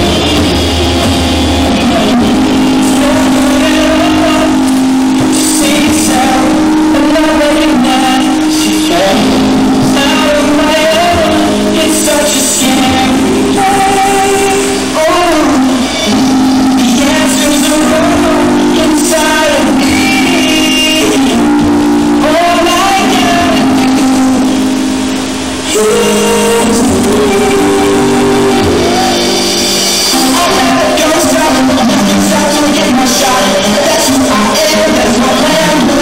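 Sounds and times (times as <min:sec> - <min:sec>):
pop song with male vocal: 0:00.0 - 0:36.0.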